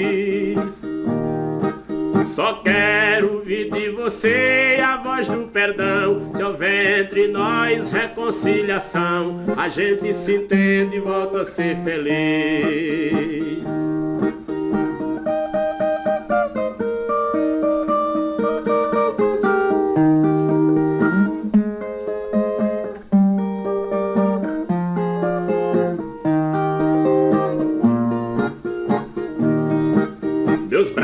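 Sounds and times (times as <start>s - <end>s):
plucked guitar melody: 0.0s - 31.0s.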